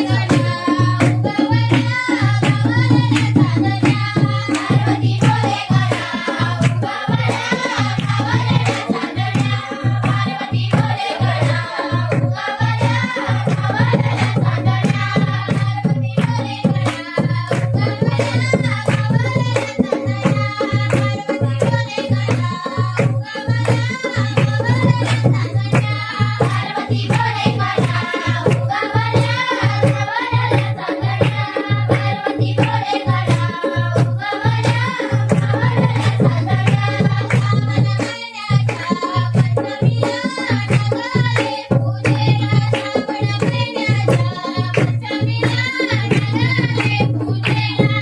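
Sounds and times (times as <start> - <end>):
fast hand-drum rhythm: 0.0 - 48.0.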